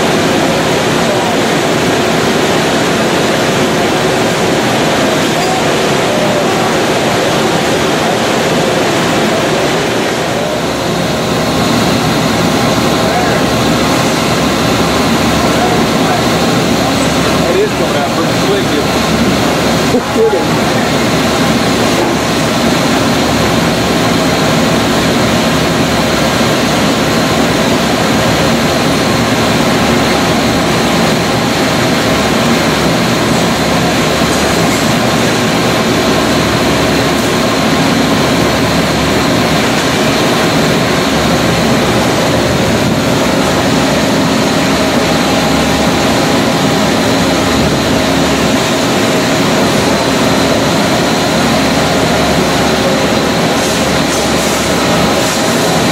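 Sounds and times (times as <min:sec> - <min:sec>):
loud mechanical drone: 0:00.0 - 0:55.9.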